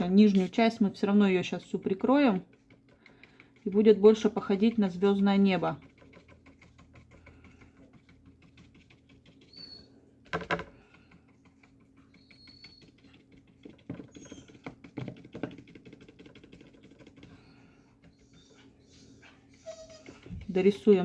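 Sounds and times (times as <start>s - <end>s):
paintbrush dabbing on paper: 0.0s - 18.8s, 20.1s - 21.0s.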